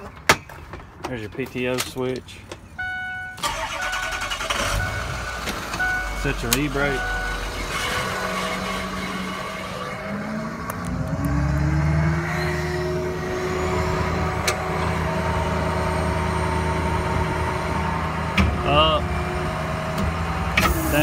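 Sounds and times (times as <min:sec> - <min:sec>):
diesel truck engine running: 0:02.3 - 0:21.0.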